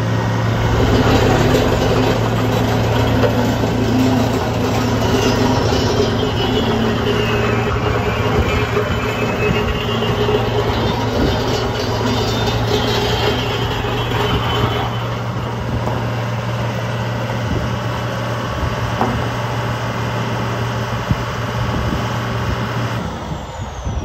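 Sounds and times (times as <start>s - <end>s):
compactor mechanical noise: 0.0s - 24.0s
diesel engine running: 0.0s - 24.0s.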